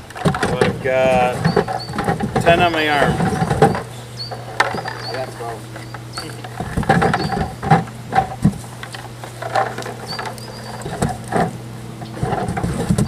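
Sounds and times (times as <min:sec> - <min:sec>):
plastic brackets clattering: 0:00.0 - 0:13.0.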